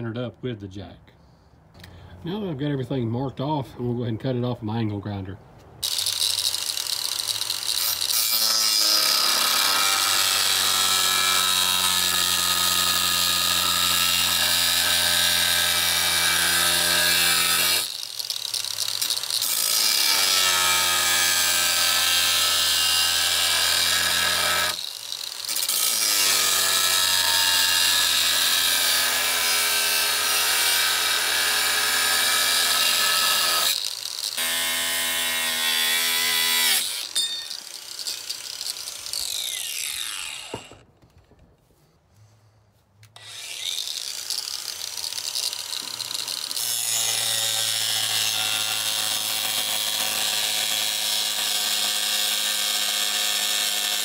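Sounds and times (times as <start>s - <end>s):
angle grinder cutting steel: 5.8s - 40.8s, 43.2s - 54.0s.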